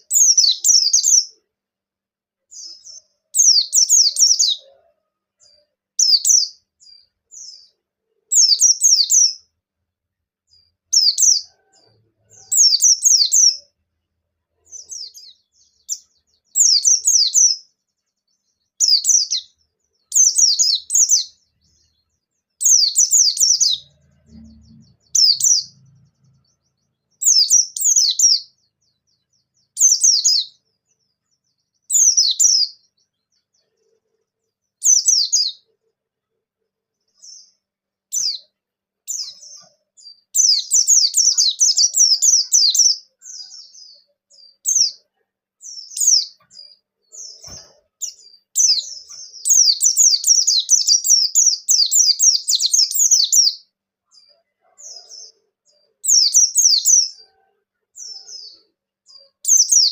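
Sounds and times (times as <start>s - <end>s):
bird twittering song: 0.0s - 1.5s, 2.4s - 9.6s, 10.5s - 35.9s, 36.9s - 59.9s.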